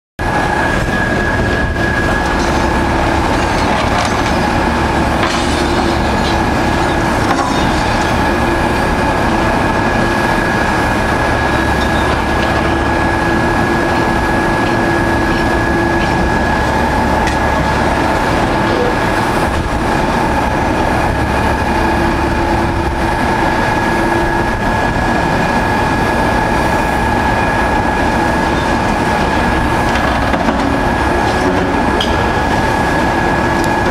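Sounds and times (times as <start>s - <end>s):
excavator engines and hydraulics: 0.2s - 33.9s.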